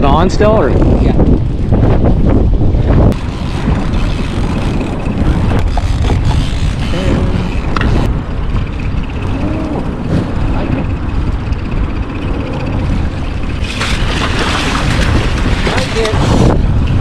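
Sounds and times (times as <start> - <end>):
boat motor rumbling: 0.0 - 17.0
wind buffeting microphone: 0.0 - 17.0.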